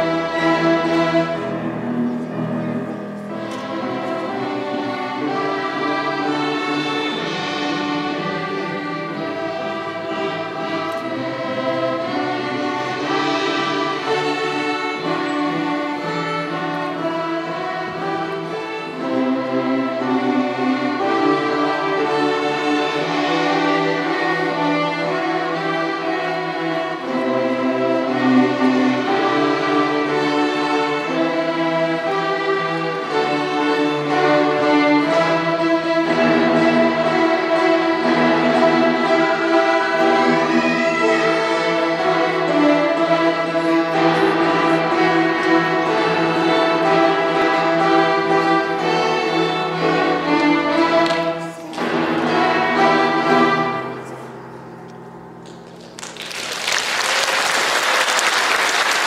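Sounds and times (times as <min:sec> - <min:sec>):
string orchestra bowing held notes: 0:00.0 - 0:59.0.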